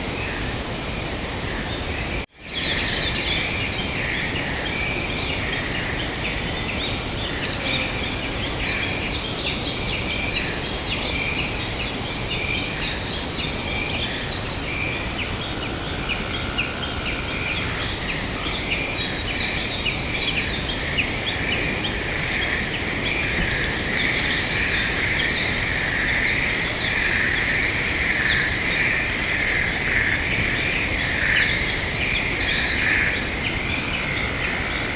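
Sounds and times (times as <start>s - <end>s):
steady background noise: 0.0s - 34.9s
flock of birds chirping: 1.5s - 34.9s.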